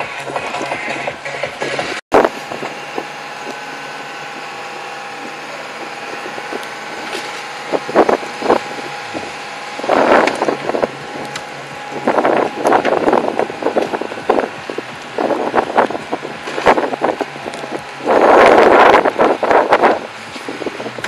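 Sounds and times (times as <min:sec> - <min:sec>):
crane engine running: 0:00.0 - 0:21.0.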